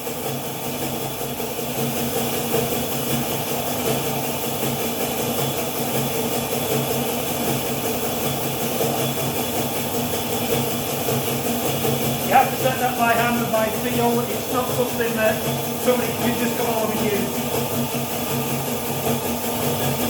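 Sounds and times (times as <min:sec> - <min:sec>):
tube-bending machine humming: 0:00.0 - 0:20.0.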